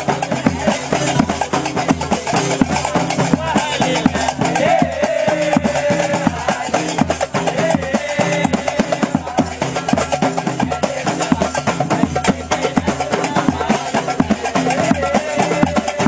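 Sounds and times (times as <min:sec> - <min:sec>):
drums and metal clappers rhythm: 0:00.0 - 0:16.0.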